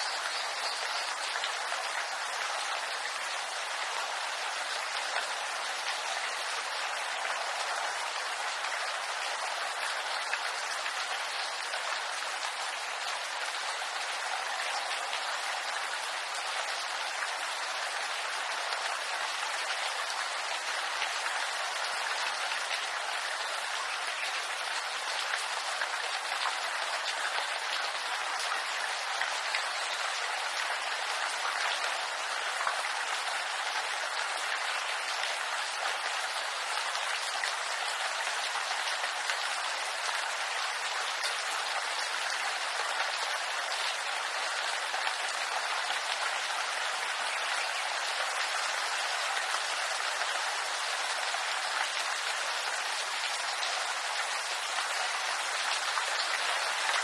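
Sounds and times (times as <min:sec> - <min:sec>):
rain on bamboo leaves: 0:00.0 - 0:57.0.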